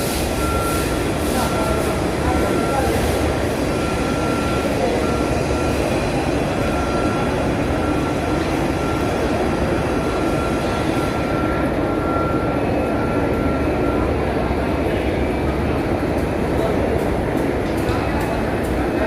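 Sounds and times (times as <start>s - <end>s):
large crowd voices: 0.0s - 19.0s.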